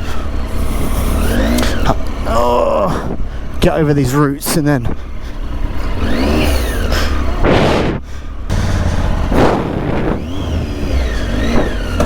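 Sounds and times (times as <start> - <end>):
motorcycle engine revving: 0.0 - 2.9, 5.0 - 12.0.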